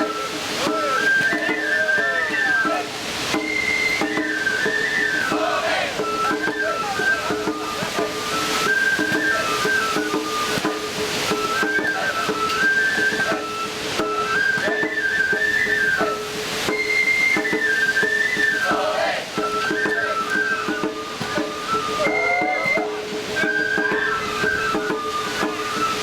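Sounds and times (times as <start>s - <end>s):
bamboo flute melody: 0.0s - 26.0s
drum strokes: 0.0s - 26.0s.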